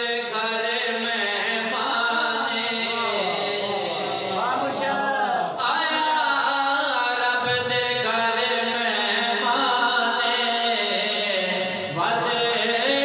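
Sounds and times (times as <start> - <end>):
devotional vocal chanting: 0.0 - 13.0.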